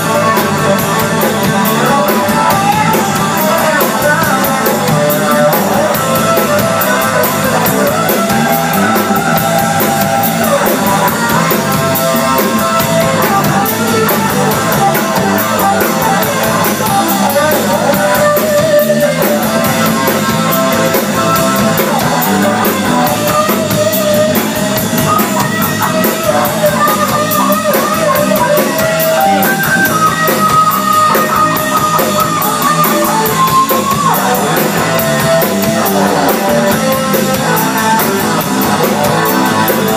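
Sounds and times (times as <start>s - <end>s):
drum kit steady beat: 0.0s - 39.9s
electric guitar lead: 0.0s - 39.9s.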